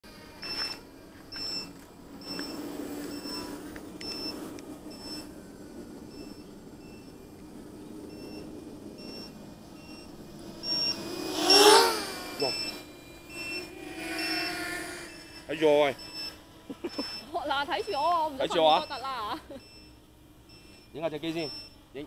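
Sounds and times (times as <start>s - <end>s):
model aircraft motor whine: 0.0s - 22.0s
short electronic beeps: 0.4s - 5.3s, 6.0s - 7.3s, 8.1s - 22.0s.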